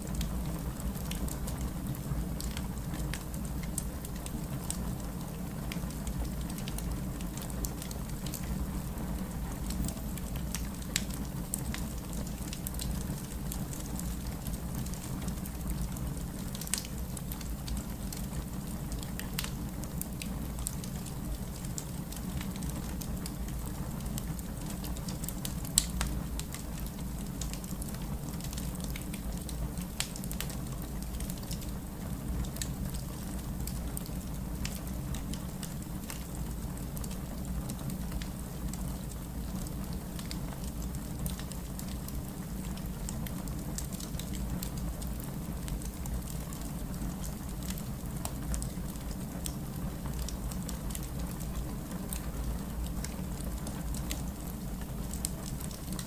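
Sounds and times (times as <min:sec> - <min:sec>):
fire snaps and pops: 0:00.0 - 0:08.9, 0:09.5 - 0:56.0
fire burning rumble: 0:00.0 - 0:56.0.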